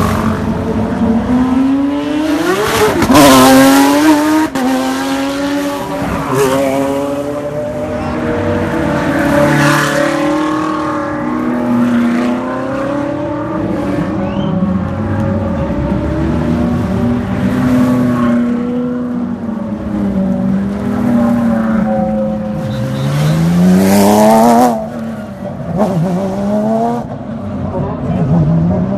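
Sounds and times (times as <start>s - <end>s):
race car engines revving: 0.0s - 28.9s.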